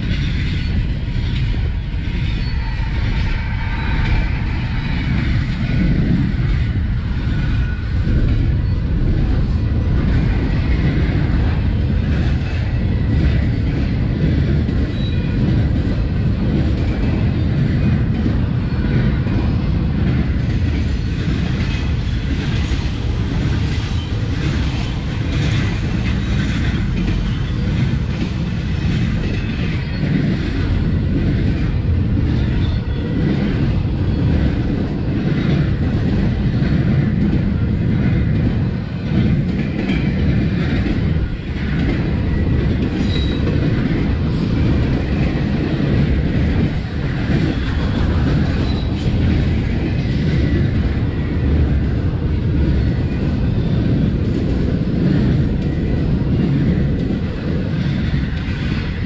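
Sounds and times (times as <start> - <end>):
train wheels rumbling on rails: 0.0 - 59.0
wheels clickety-clack over joints: 4.0 - 59.0.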